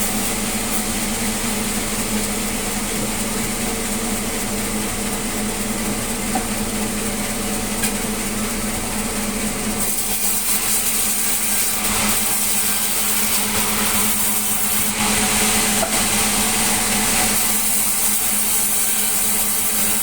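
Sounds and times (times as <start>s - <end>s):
sawmill saw cutting log: 0.0s - 20.0s.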